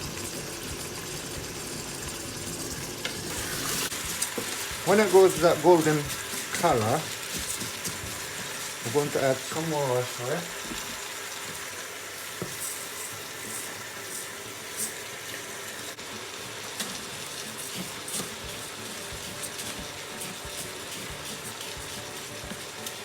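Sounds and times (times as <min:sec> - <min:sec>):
rice sizzling in oil: 0:00.0 - 0:23.0.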